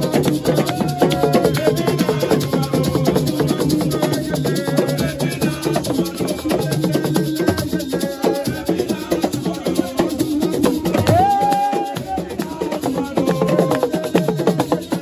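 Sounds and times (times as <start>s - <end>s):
drums: 0.0s - 15.0s
rattling shakers: 0.0s - 15.0s.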